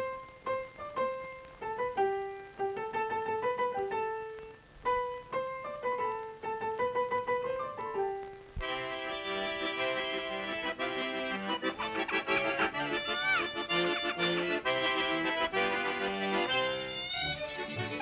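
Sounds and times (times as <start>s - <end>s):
fuller music with held notes: 0.0s - 18.0s
piano picking out a tune: 0.0s - 18.0s.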